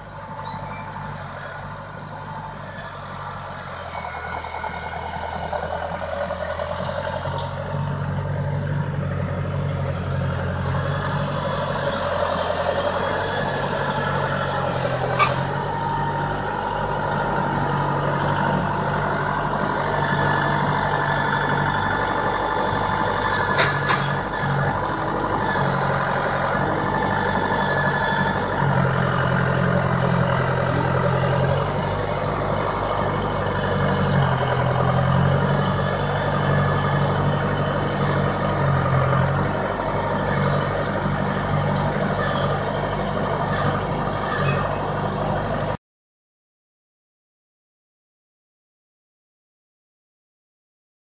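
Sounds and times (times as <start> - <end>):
tractor engine running: 0.0 - 45.8.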